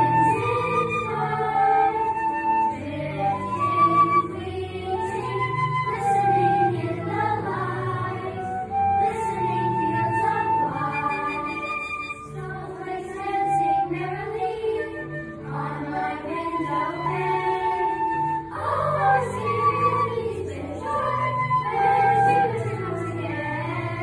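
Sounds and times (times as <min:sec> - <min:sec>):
children's choir singing: 0:00.0 - 0:24.0
flute playing: 0:00.0 - 0:24.0.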